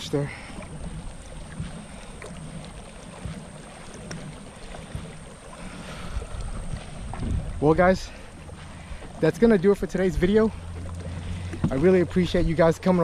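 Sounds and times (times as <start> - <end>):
pedal propeller drive rumble: 0.0 - 13.0
water along hull: 0.0 - 13.0.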